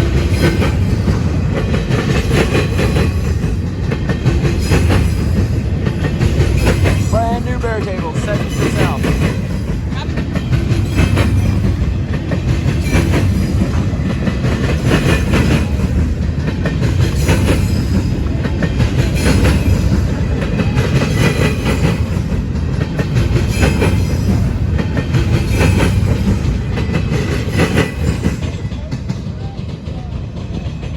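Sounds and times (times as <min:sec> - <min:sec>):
freight train rumbling past: 0:00.0 - 0:30.9
wheels clacking over rail joints: 0:00.0 - 0:30.9.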